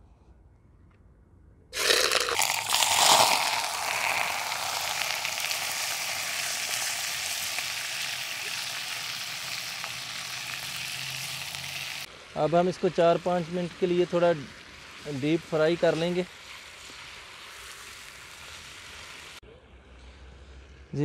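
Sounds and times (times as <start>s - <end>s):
chicken frying in hot oil: 1.8s - 19.4s.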